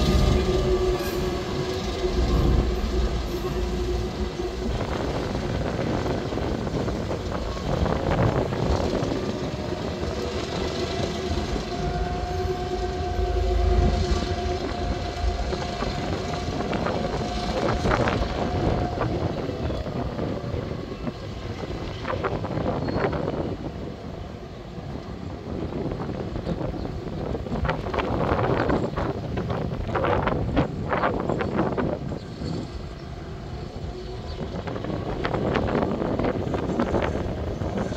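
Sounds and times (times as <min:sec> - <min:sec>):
diesel locomotive engine rumble: 0:00.0 - 0:37.9.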